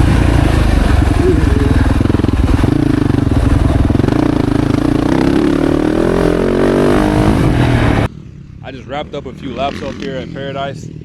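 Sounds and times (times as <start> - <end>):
motorcycle engine revving: 0.0 - 8.1, 9.5 - 11.0.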